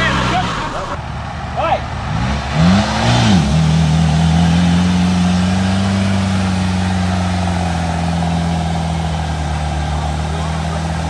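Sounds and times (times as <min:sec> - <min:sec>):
engine running at raised revs: 0:00.0 - 0:11.0.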